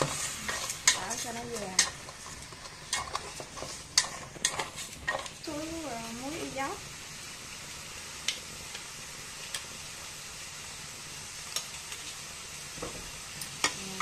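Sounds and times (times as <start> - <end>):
fish sizzling in a pot: 0.0 - 14.0.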